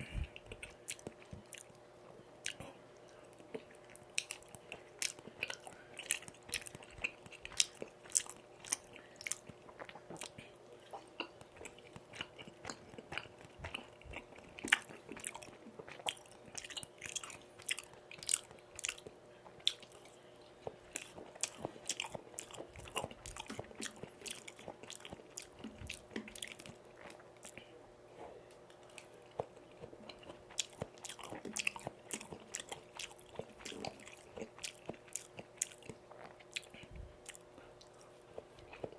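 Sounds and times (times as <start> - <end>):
faint steady hum: 0.0 - 38.9
wet chewing and biting: 3.4 - 27.6, 28.7 - 38.9.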